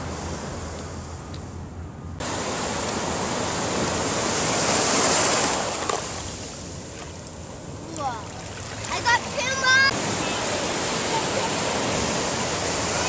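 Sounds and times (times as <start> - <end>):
wave washing on beach: 2.2 - 13.0.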